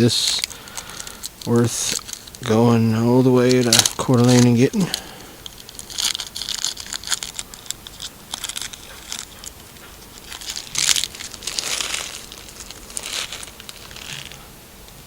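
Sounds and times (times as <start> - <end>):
wrapper being torn and crinkled: 0.2 - 2.7, 3.4 - 14.4.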